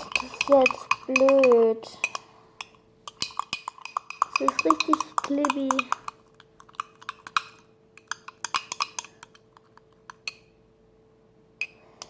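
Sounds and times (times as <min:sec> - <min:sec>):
utensil clicking against container: 0:00.0 - 0:10.4.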